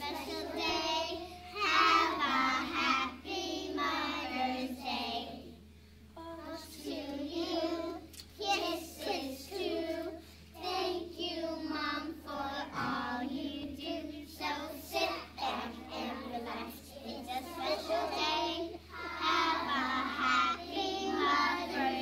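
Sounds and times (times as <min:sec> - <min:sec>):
children singing together: 0:00.0 - 0:05.6, 0:06.3 - 0:22.0.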